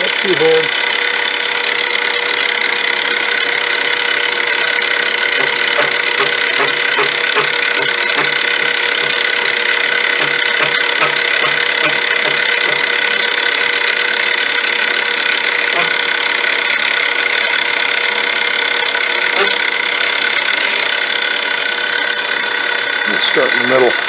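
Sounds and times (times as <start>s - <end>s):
milling machine whine: 0.0s - 24.0s.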